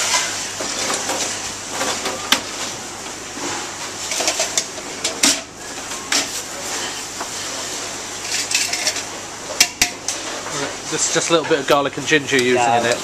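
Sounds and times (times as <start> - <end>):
steady kitchen hiss: 0.0 - 13.0.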